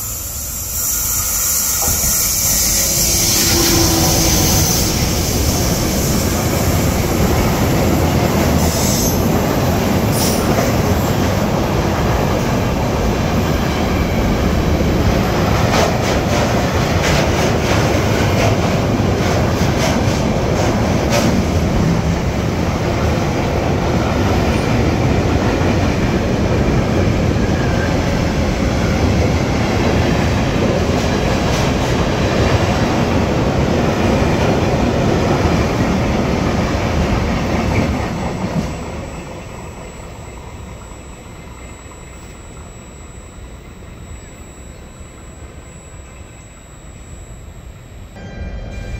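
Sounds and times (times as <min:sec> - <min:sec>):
train wheels rumbling on rails: 0:00.0 - 0:40.5.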